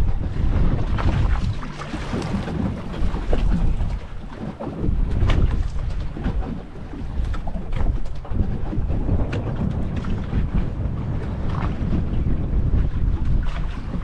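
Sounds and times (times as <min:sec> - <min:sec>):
water splashing against boat hull: 0:00.0 - 0:14.0
wind buffeting microphone: 0:00.0 - 0:14.0.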